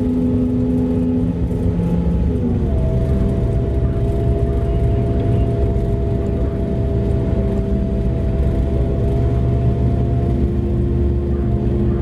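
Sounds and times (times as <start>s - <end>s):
constant drivetrain whine: 0.0s - 12.0s
truck engine rumbling from cab: 0.0s - 12.0s.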